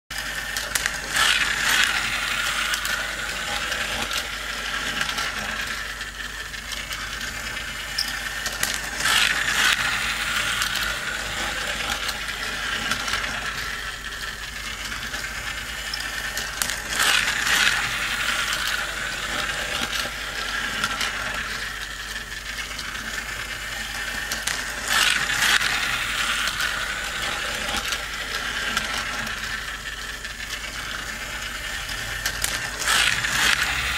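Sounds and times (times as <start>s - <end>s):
toy gears whirring and ratcheting: 0.1s - 33.9s.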